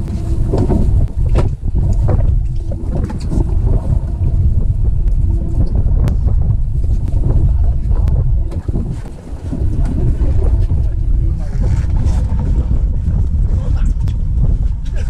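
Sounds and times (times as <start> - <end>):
steady low hum: 0.0 - 15.0
wind rumbling on microphone: 0.0 - 15.0.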